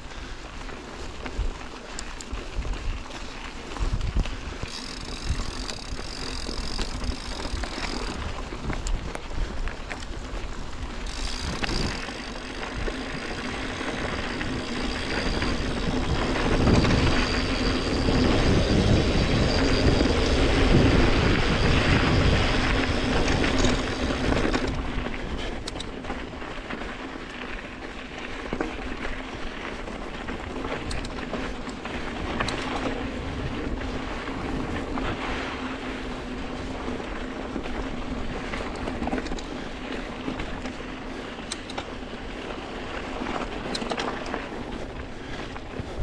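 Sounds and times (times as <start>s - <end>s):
bike tyres on dirt trail: 0.0s - 46.0s.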